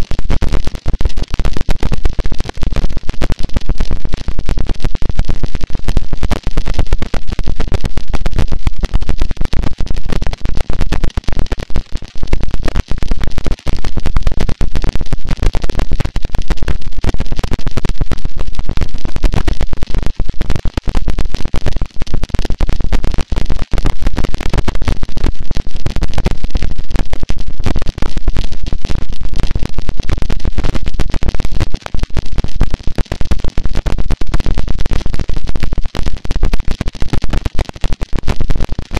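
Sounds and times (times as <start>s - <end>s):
loud distorted static: 0.0s - 38.9s.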